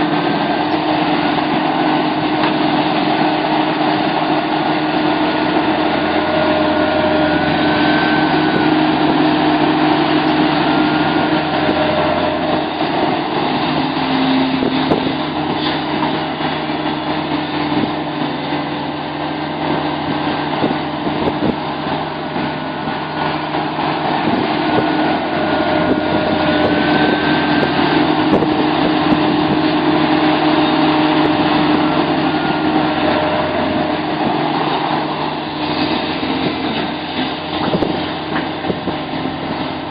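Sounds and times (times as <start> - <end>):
rising whine: 0.0 - 18.7, 19.5 - 39.9
excavator diesel engine running: 0.0 - 39.9.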